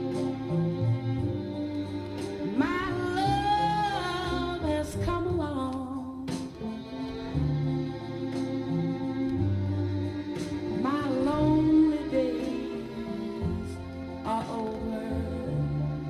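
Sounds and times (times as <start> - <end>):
song from loudspeakers: 0.0 - 16.0.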